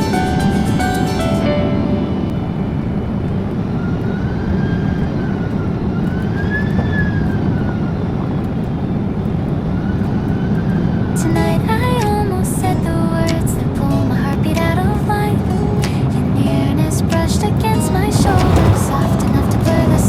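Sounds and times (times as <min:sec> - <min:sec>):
faint whine: 0:00.0 - 0:20.0
roar of jet engines and airflow: 0:00.0 - 0:20.0.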